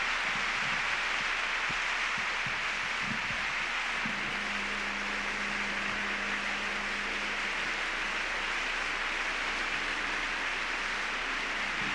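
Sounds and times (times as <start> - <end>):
recording hiss: 0.0 - 11.9.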